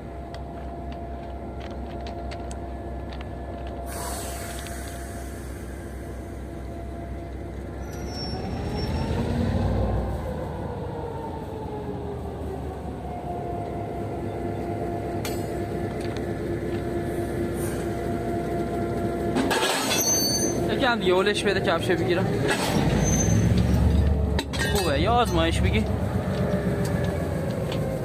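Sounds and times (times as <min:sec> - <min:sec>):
diesel train rumbling on rails: 0:00.0 - 0:28.0
train whining: 0:00.0 - 0:28.0.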